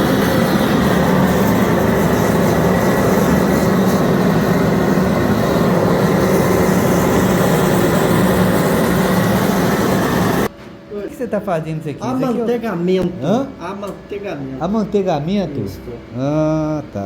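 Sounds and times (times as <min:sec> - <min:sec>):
welding arc humming and hissing: 0:00.0 - 0:17.0.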